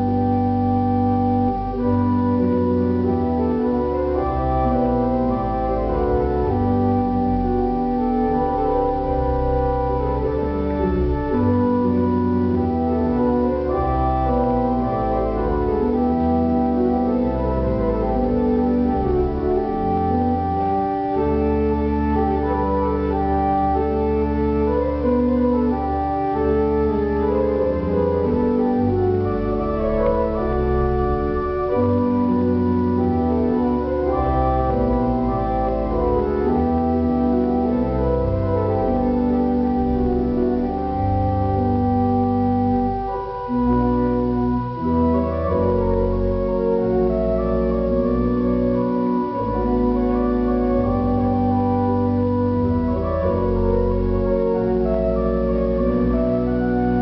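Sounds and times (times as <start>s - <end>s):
organ playing chords: 0.0s - 57.0s.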